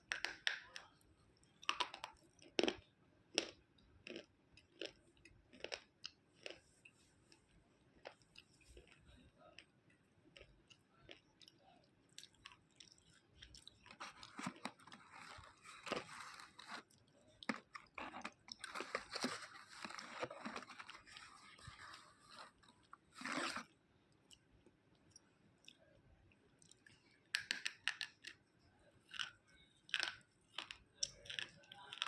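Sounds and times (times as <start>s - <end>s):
crunchy food being chewed: 0.0s - 32.0s.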